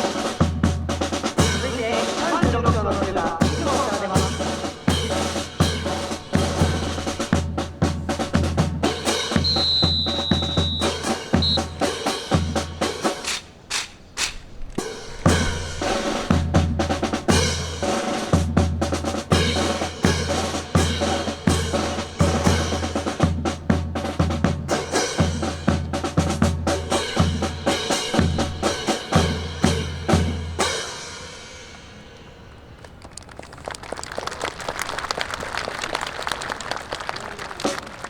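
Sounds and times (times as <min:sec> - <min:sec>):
snare drum rolls and rimshots: 0:00.0 - 0:33.0.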